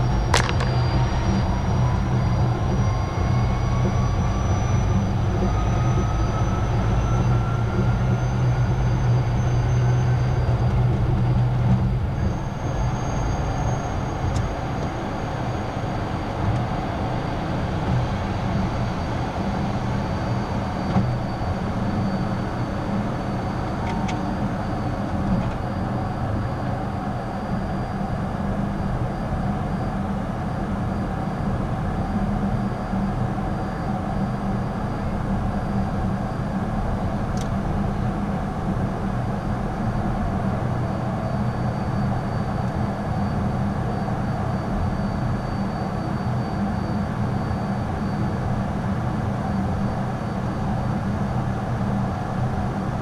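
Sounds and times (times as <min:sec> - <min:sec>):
faint high whine: 0:00.0 - 0:53.0
jet engines humming: 0:00.0 - 0:53.0.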